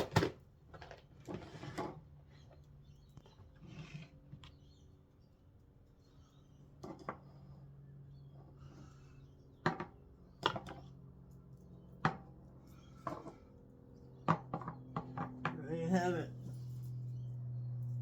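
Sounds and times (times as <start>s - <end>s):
faint low hum: 0.1s - 18.0s.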